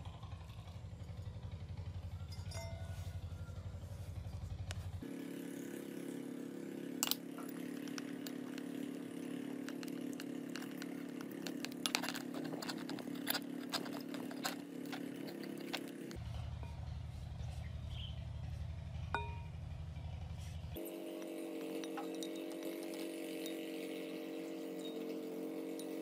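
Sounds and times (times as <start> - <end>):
motor hum: 0.0 - 26.0.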